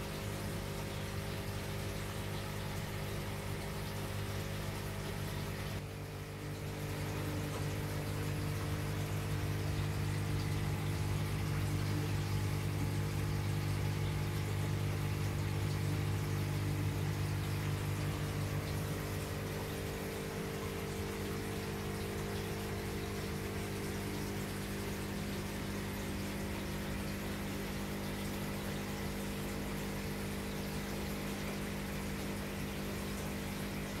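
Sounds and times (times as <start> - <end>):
aquarium pump electric hum: 0.0 - 34.0
moving water: 0.0 - 34.0.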